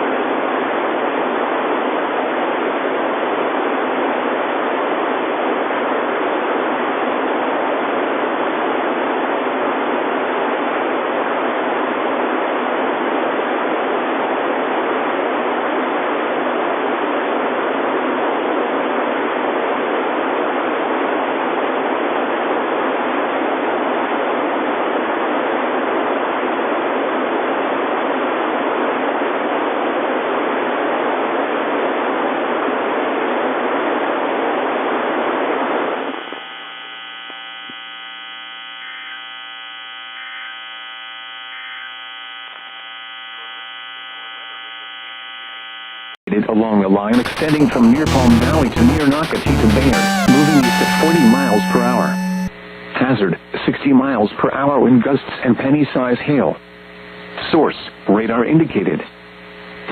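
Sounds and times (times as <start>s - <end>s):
radio static hiss: 0.0s - 59.9s.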